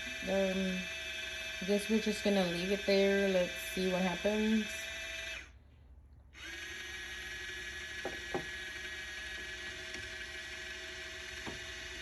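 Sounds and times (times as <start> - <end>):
mini washing machine whirring: 0.0 - 5.5, 6.3 - 12.0.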